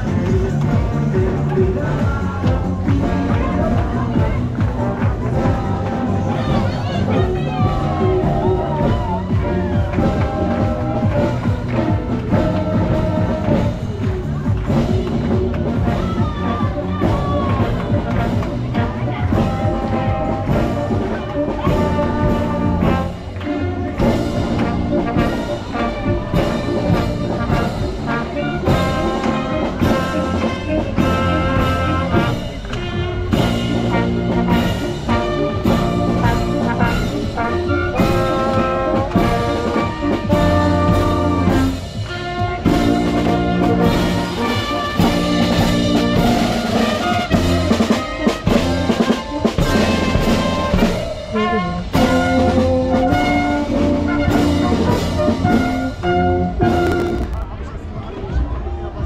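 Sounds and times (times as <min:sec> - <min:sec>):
steady drum beat: 0:00.0 - 0:57.5
trumpets and trombones: 0:00.0 - 0:57.8.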